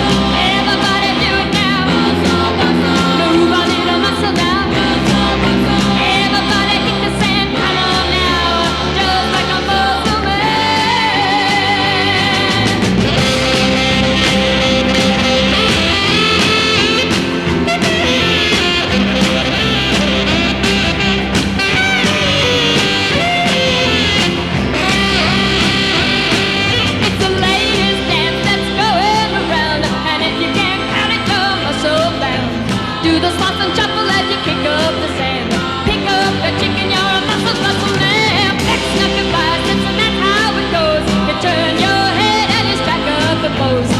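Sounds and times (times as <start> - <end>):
rock and roll band with guitar: 0.0 - 43.9
women singing: 0.0 - 43.9.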